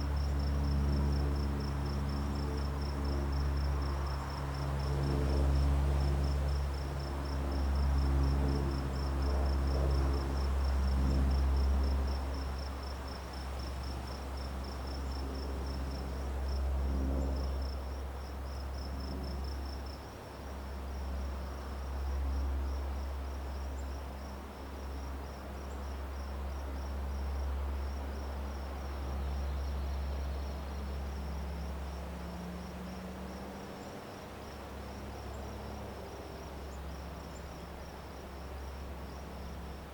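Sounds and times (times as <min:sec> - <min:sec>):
cricket chirping: 0:00.0 - 0:20.0, 0:20.6 - 0:39.9.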